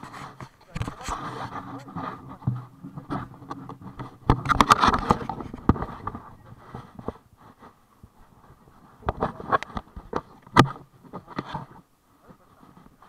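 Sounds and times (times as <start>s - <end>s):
scratching and tapping on microphone: 0.0s - 13.0s.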